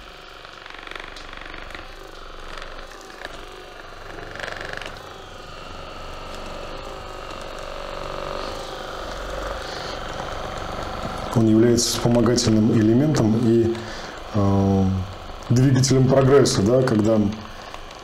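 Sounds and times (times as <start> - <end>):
massage gun motor hum: 0.0 - 18.0.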